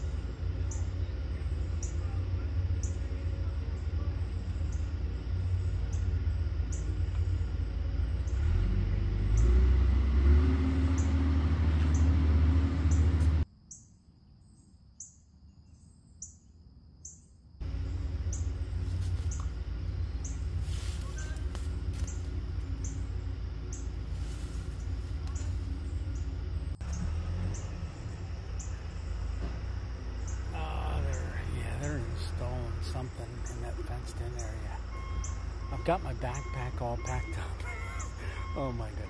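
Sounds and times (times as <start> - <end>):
machinery engine rumble: 0.0 - 13.4, 17.6 - 39.0.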